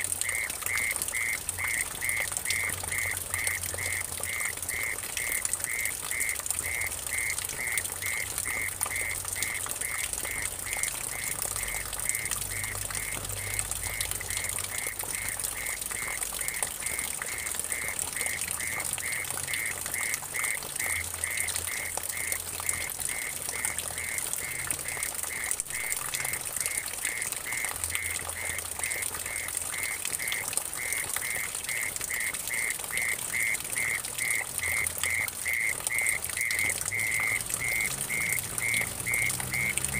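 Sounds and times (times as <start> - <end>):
water splashing into puddle: 0.0 - 39.9.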